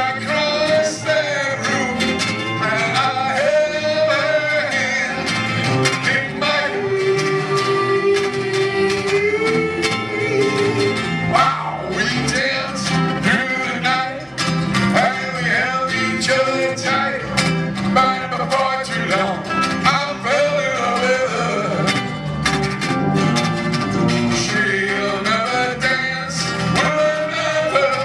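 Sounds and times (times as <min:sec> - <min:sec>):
live band music: 0:00.0 - 0:28.0.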